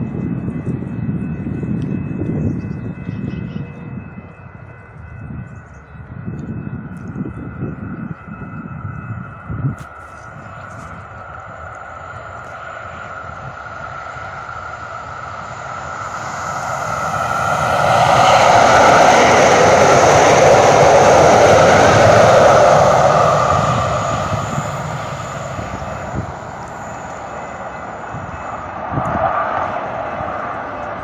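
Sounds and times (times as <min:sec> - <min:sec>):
light rail train passing: 0:00.0 - 0:31.0.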